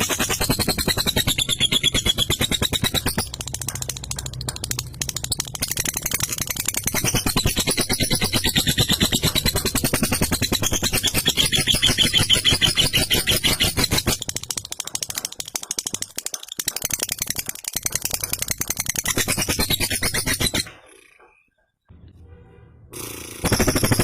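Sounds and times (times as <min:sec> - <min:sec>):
lovebird rattling chatter: 0:00.0 - 0:21.5, 0:23.4 - 0:24.0.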